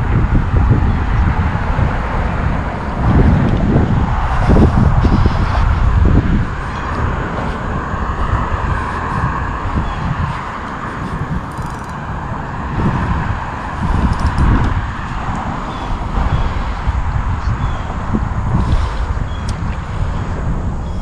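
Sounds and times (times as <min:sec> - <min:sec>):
steady rushing noise: 0:00.0 - 0:21.0
wind gusting across microphone: 0:00.0 - 0:21.0.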